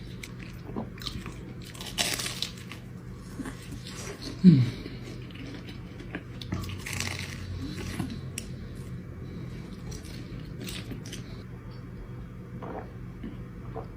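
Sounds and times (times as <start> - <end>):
person chewing: 0.0 - 11.4.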